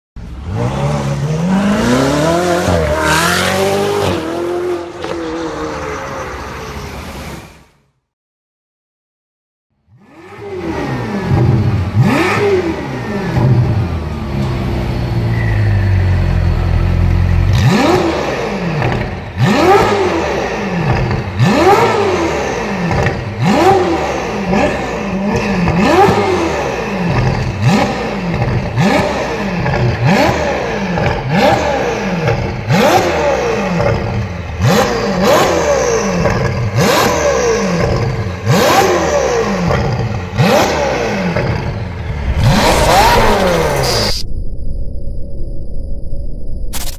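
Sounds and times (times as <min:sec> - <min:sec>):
car engine revving: 0:00.3 - 0:06.2, 0:09.9 - 0:45.4.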